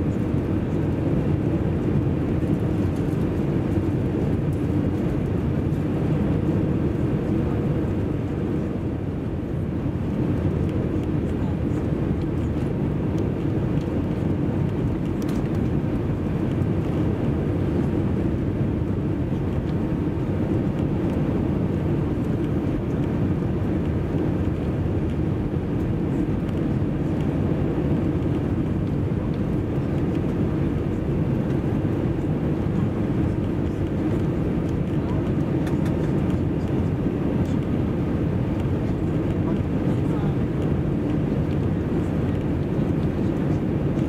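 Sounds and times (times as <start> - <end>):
deep engine rumble: 0.0 - 44.0.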